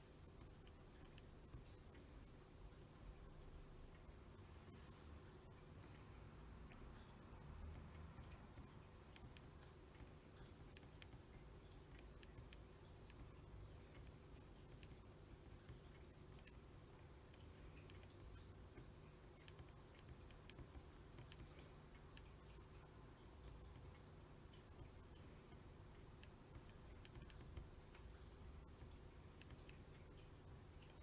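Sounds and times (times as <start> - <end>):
low steady hum: 0.0 - 31.0
fountain pen nib scratching paper: 0.2 - 2.1, 5.7 - 31.0.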